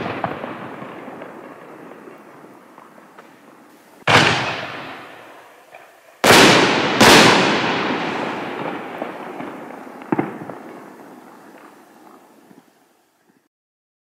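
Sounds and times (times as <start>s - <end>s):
firework booms: 0.0s - 12.8s
sharp firework crack: 0.0s - 12.8s.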